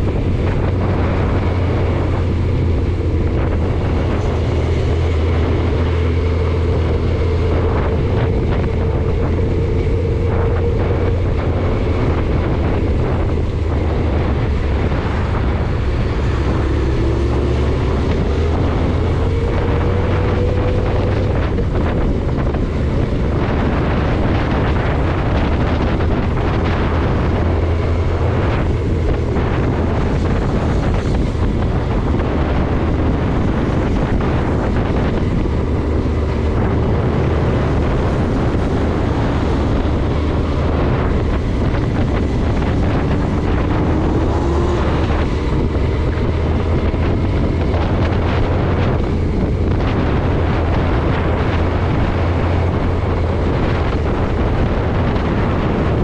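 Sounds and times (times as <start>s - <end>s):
faint rising whine: 0.0s - 51.3s
car engine and tyre rumble: 0.0s - 56.0s
wind noise: 0.0s - 56.0s.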